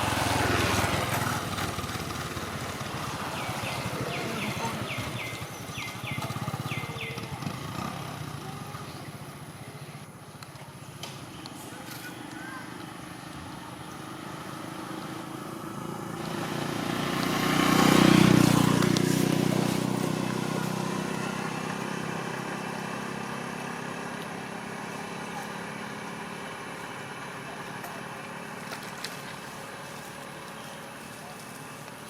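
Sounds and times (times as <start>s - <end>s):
vehicle engine passing by: 0.0s - 9.5s, 11.5s - 31.8s.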